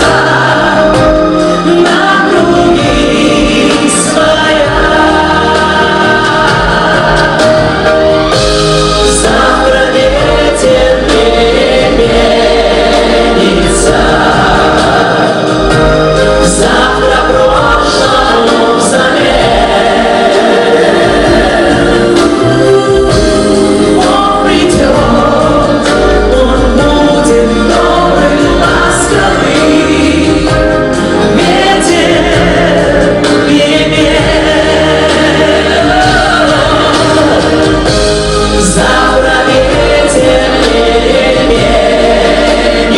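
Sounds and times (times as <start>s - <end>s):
group of voices singing: 0.0s - 42.9s
instrumental accompaniment: 0.0s - 42.9s.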